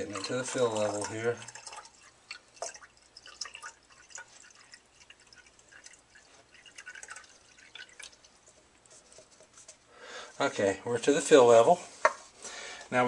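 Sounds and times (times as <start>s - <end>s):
water trickling into reservoir: 0.0s - 11.6s.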